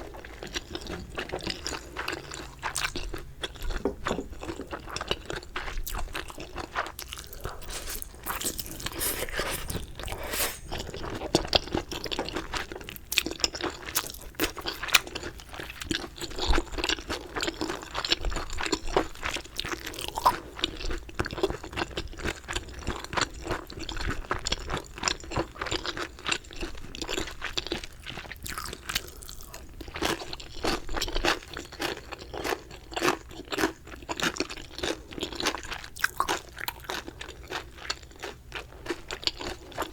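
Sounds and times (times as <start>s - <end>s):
crispy chicken crunching and chewing: 0.0s - 39.9s.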